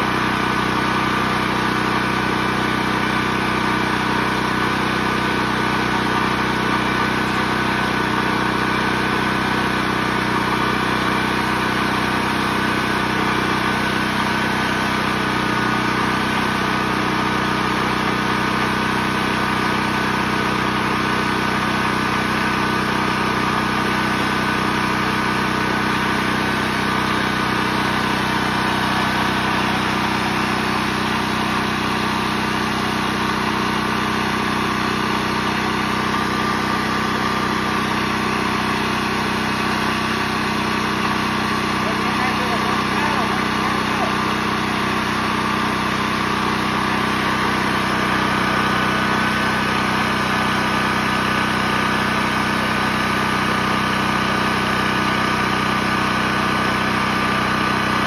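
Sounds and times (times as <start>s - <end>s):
generator engine running: 0.0s - 58.0s.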